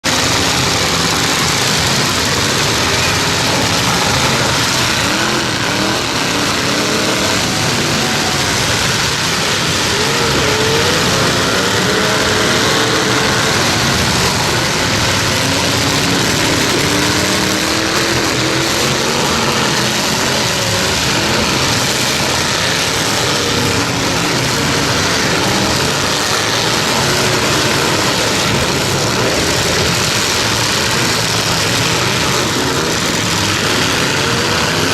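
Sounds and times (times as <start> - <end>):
truck engines revving: 0.0 - 34.9.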